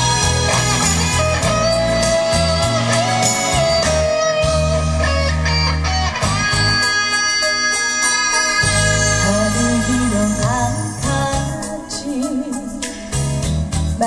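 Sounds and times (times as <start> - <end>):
instrumental backing track over speakers: 0.0 - 14.0.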